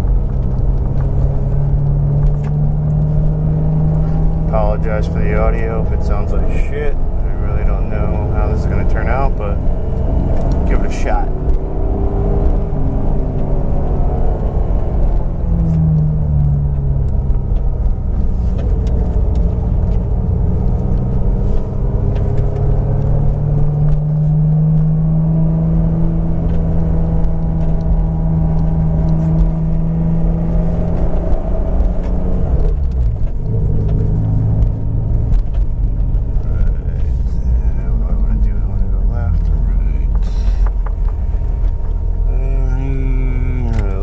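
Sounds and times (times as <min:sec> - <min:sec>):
car engine running: 0:00.0 - 0:44.0
low rumble: 0:00.0 - 0:44.0.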